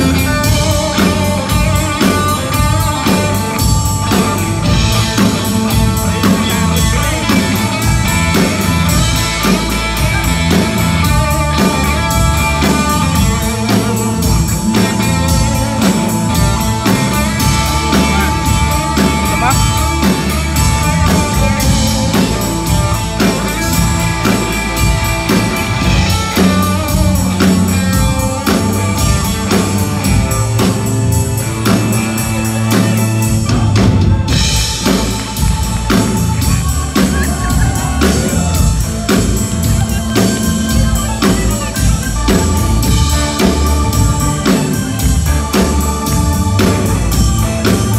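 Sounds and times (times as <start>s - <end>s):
blues band playing: 0.0s - 47.9s
electric guitar: 0.0s - 47.9s.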